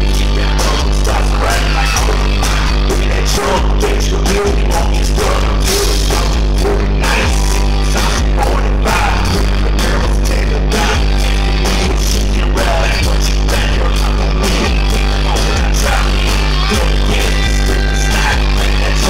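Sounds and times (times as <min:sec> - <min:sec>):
bass: 0:00.0 - 0:19.0
electric guitars: 0:00.0 - 0:19.0
steady drum beat: 0:00.0 - 0:19.0
vocalist singing over pa: 0:00.0 - 0:19.0.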